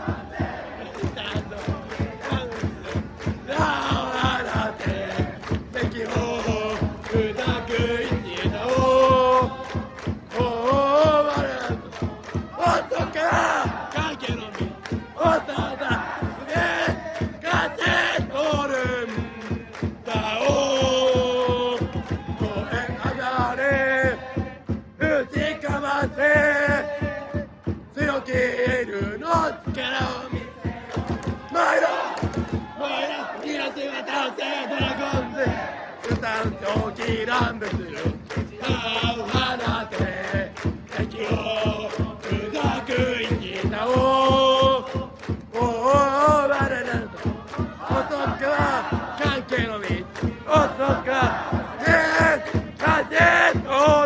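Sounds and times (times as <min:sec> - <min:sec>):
steady drum beat: 0:00.0 - 0:32.8, 0:34.7 - 0:54.0
crowd chanting and singing: 0:00.0 - 0:54.0.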